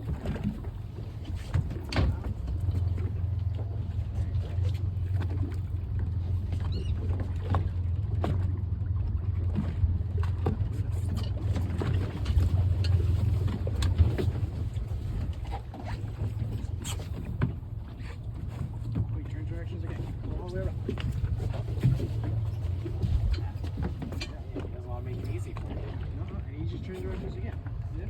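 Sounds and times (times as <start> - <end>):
boat engine rumble: 0.0 - 28.0.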